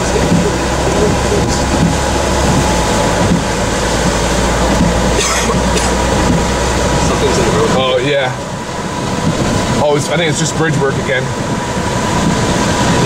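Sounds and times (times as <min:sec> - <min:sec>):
engine and road rumble: 0:00.0 - 0:13.0
heavy rain: 0:00.0 - 0:13.0
tyres on flooded road: 0:00.0 - 0:13.0.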